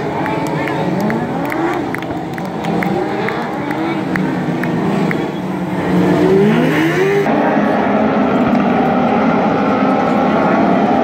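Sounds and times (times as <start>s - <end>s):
race car engines accelerating: 0.0s - 11.0s.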